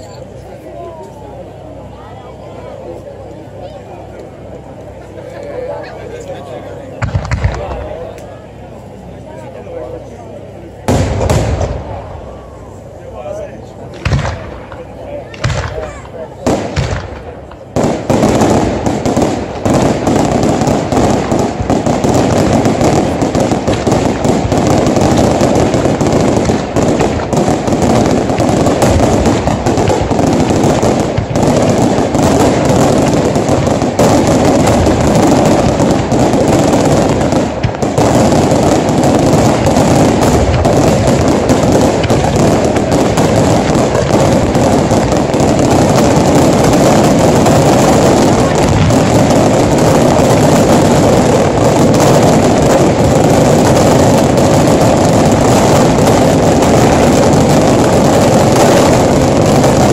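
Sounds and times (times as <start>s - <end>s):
firework bangs and crackle: 0.0s - 59.9s.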